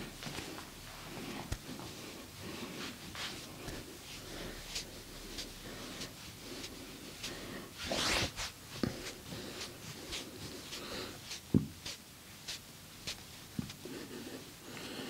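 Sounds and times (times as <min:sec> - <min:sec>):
hands rubbing and tapping skin: 0:00.2 - 0:02.0, 0:02.8 - 0:07.4, 0:08.4 - 0:14.2.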